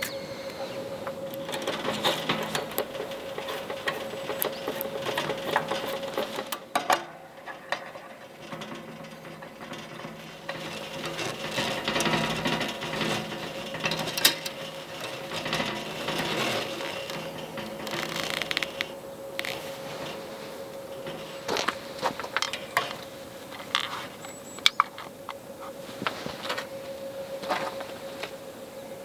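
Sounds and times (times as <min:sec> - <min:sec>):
objects handled clicking and tapping: 0:00.0 - 0:25.4
faint steady hum: 0:00.0 - 0:29.0.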